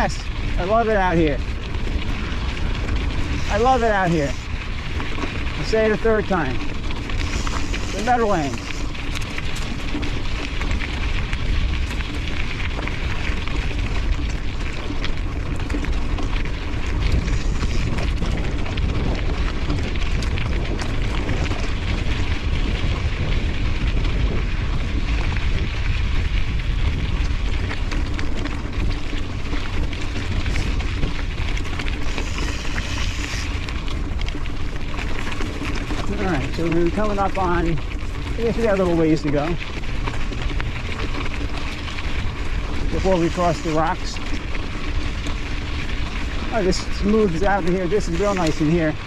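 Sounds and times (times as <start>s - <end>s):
bike clicking and rattling: 0.0s - 49.0s
bike tyre noise: 0.0s - 49.0s
wind rumble on microphone: 0.0s - 49.0s.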